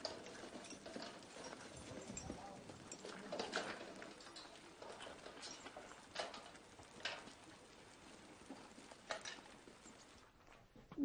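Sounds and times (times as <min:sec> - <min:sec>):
horse hooves clopping on road: 0:00.0 - 0:10.7.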